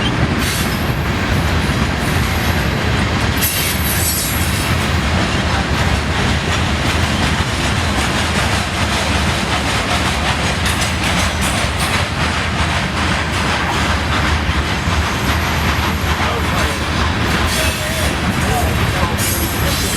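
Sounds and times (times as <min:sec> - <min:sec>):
train wheels rumbling on rail: 0:00.0 - 0:19.9
wheels clicking: 0:00.7 - 0:19.9.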